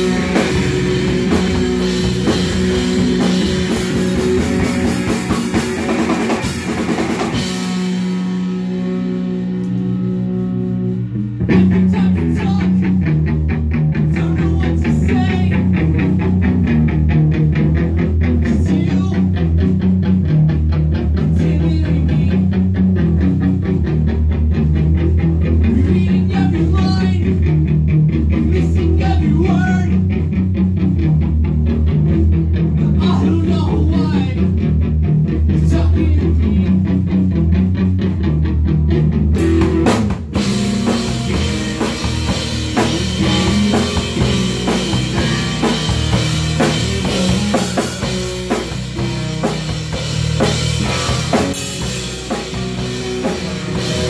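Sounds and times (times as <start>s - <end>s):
bass guitar: 0.0s - 54.0s
distorted electric guitar: 0.0s - 54.0s
drum kit: 0.0s - 54.0s.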